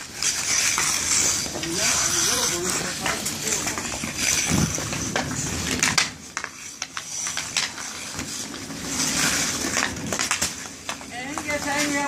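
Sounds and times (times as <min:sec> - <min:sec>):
hockey sticks clacking: 0:00.0 - 0:12.0
skate blades scraping ice: 0:00.0 - 0:12.0.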